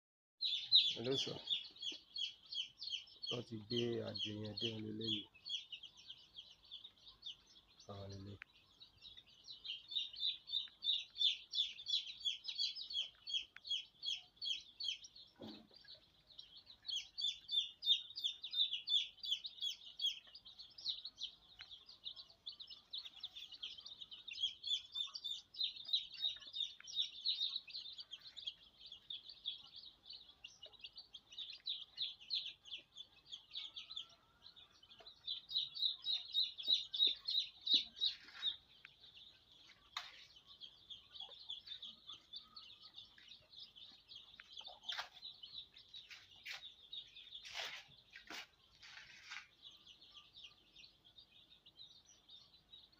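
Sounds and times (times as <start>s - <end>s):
chicks peeping: 0.4s - 52.9s.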